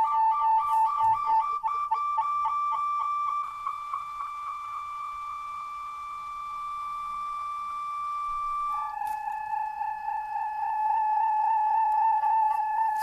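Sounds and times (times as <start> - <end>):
lower electronic tone: 0.0 - 13.0.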